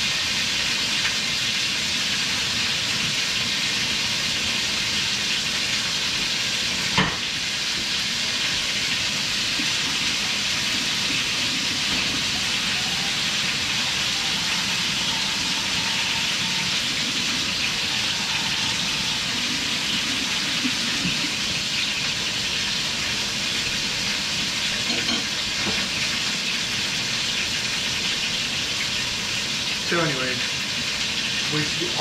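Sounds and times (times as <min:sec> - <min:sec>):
kitchen noise hiss: 0:00.0 - 0:32.0.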